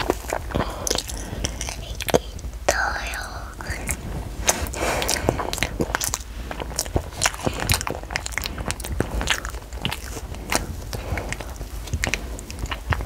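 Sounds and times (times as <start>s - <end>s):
child chewing with mouth clicks: 0.0s - 13.0s.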